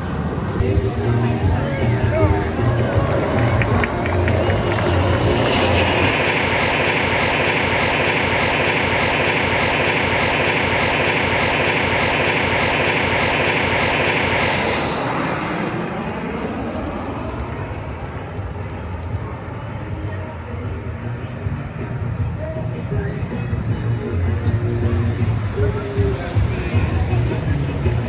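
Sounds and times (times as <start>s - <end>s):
aircraft engine roaring past: 0.0s - 28.0s.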